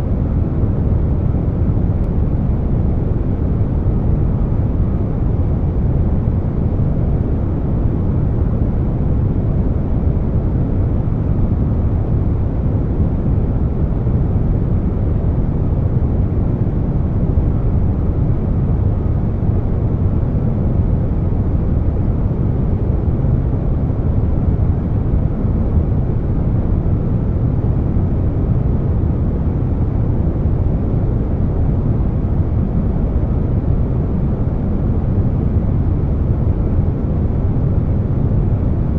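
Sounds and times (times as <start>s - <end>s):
air conditioner noise: 0.0s - 38.9s.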